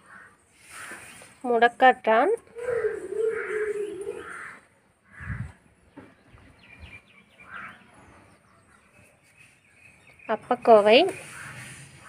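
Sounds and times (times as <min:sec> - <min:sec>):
birds calling harshly: 0:00.0 - 0:01.5, 0:02.4 - 0:12.0.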